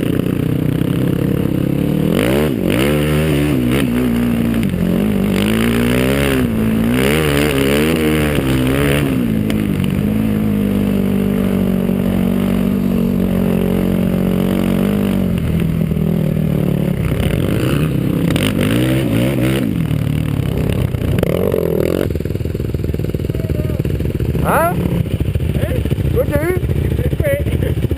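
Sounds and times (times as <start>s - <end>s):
atv engine revving: 0.0s - 27.9s.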